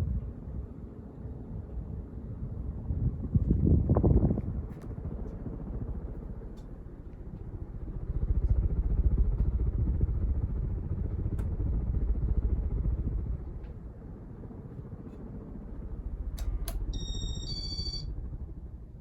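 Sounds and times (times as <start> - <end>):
ceiling fan fluttering rumble: 0.0 - 19.0.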